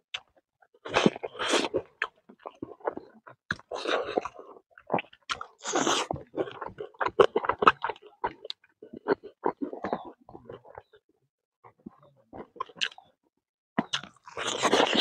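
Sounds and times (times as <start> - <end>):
person chewing and crunching food: 0.1 - 13.1, 13.8 - 15.0.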